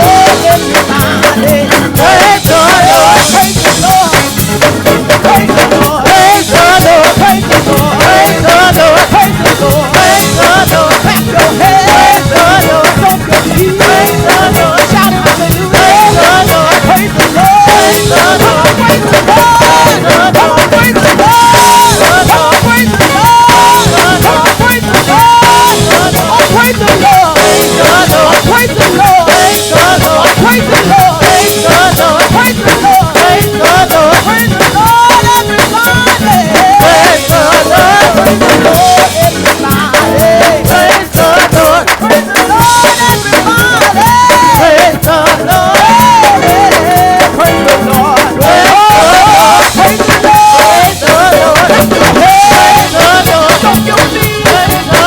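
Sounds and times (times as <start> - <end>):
gospel band playing fast groove: 0.0 - 55.0
sliding melody line: 0.0 - 55.0.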